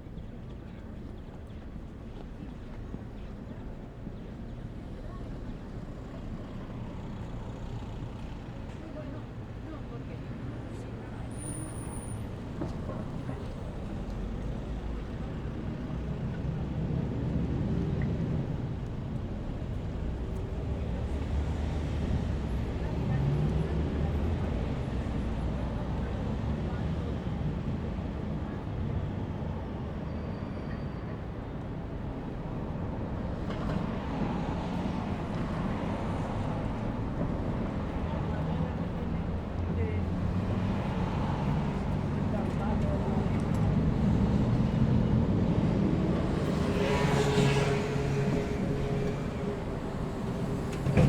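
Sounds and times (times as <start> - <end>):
traffic rumble: 0.0 - 51.0.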